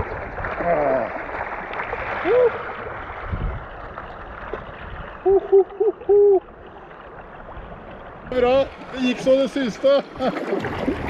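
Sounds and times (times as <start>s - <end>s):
river water rushing and splashing: 0.0s - 11.0s.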